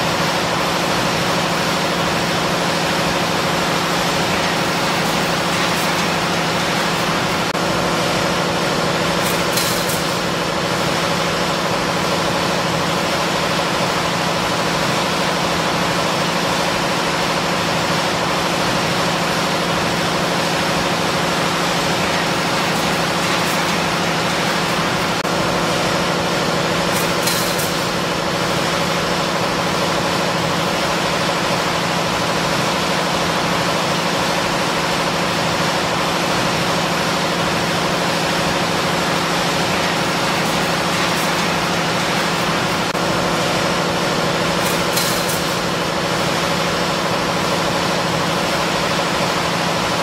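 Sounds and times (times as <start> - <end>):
wire drawing machine humming: 0.0 - 50.0.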